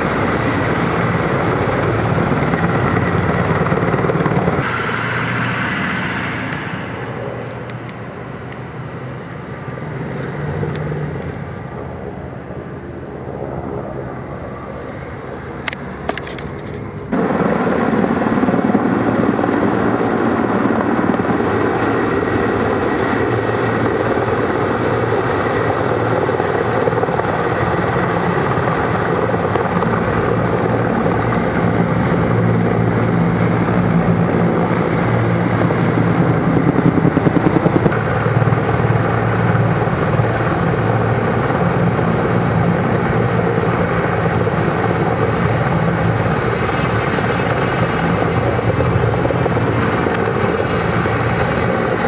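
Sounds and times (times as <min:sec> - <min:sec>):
helicopter rotor roar: 0:00.0 - 0:52.0
high turbine whine: 0:00.0 - 0:52.0.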